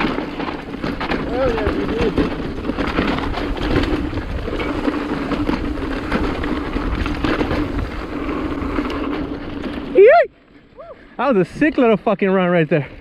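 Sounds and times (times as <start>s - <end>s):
bike rattles and clicks: 0.0s - 13.0s
bike tyres rumbling on dirt: 0.0s - 13.0s.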